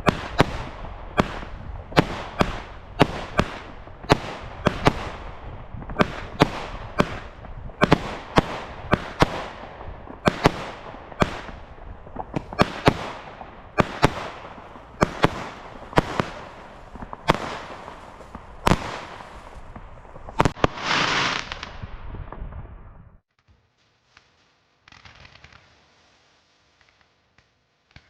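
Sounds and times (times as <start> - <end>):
firework rushing burst: 0.0 - 22.9
firework bangs: 0.0 - 23.0, 24.0 - 26.2.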